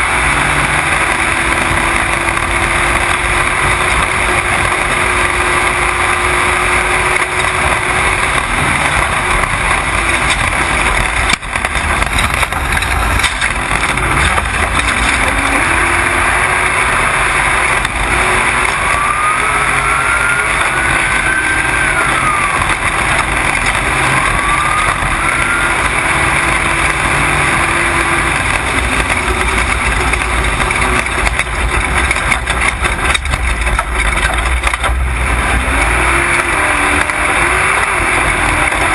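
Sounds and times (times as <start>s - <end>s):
rising and falling whine: 0.0s - 38.9s
truck engine under load: 0.0s - 38.9s
wind and dirt road noise: 0.0s - 38.9s.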